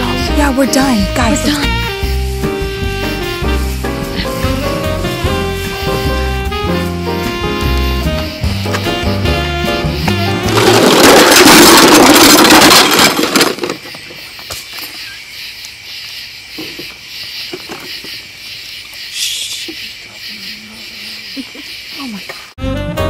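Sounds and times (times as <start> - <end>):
night insects chorus: 0.0 - 22.6.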